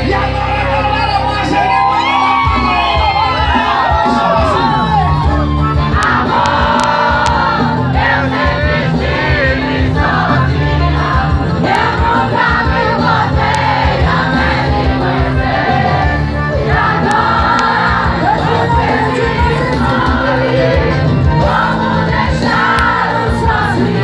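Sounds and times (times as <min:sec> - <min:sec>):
live band music: 0:00.0 - 0:24.0
crowd singing along: 0:03.5 - 0:24.0.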